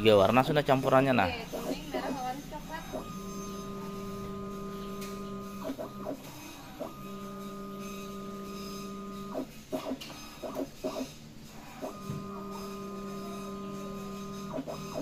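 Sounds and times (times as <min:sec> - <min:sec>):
tinting machine humming: 0:00.0 - 0:15.0.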